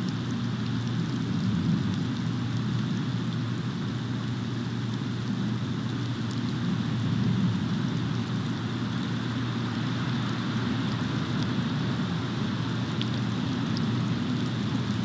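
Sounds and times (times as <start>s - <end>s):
falling precipitation: 0.0s - 15.0s
wind: 0.0s - 15.0s.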